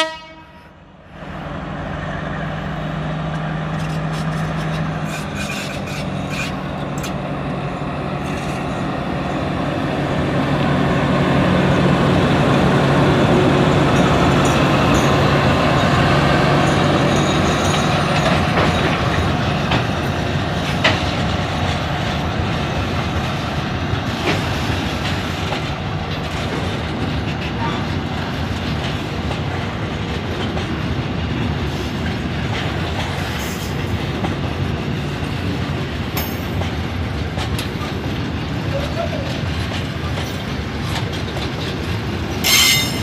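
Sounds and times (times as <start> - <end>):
diesel locomotive engine running: 0.7 - 43.0.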